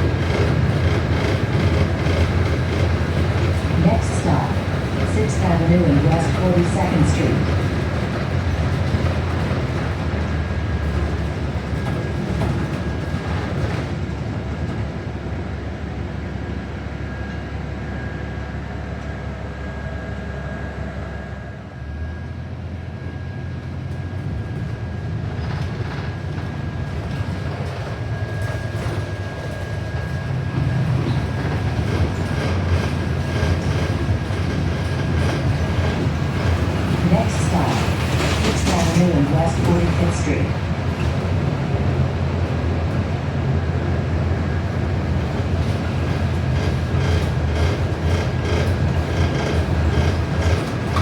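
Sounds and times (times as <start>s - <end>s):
bus engine low rumble: 0.0s - 51.0s.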